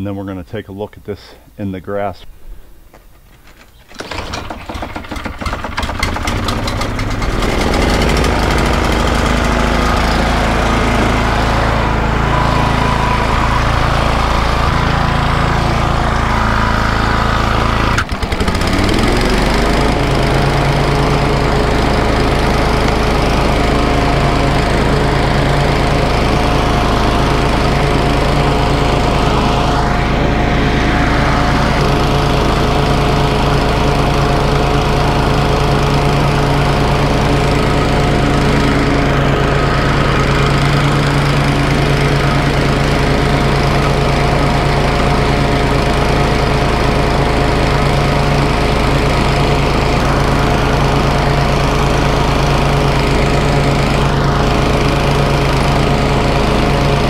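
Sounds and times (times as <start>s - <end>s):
lawn mower engine running: 2.4s - 57.0s.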